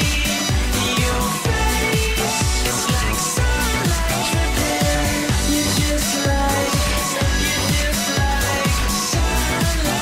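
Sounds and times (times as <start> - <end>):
upbeat electronic pop music: 0.0 - 10.0.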